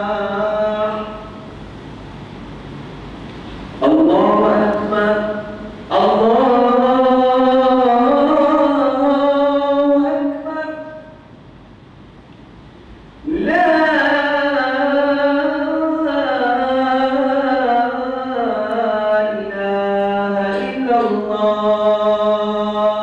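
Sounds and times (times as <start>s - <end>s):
man chanting call to prayer: 0.0s - 1.4s, 3.8s - 11.2s, 13.2s - 23.0s.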